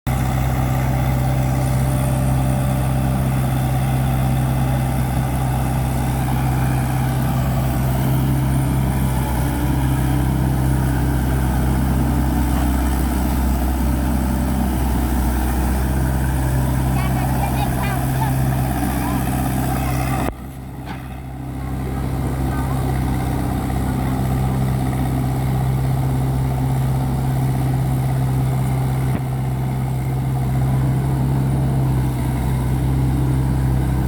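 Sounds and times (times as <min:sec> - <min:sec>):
heavy diesel engine running: 0:00.1 - 0:34.0.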